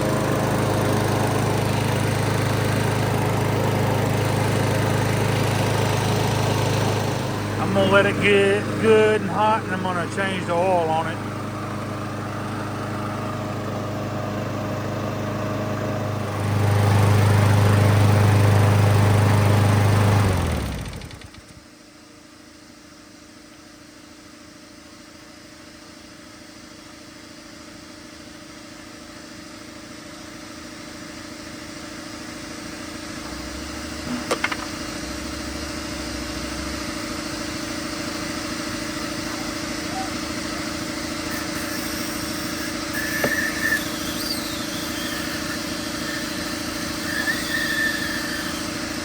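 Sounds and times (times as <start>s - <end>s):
lawn mower engine running: 0.0s - 21.7s, 28.5s - 49.0s.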